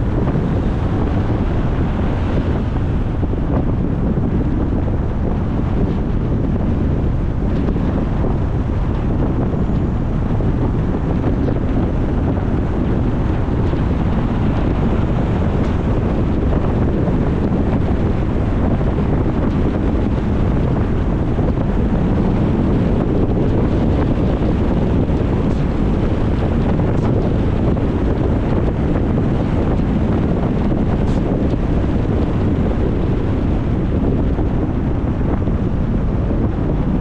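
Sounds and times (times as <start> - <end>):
low road noise: 0.0 - 37.0
wind rushing over microphone: 0.0 - 37.0.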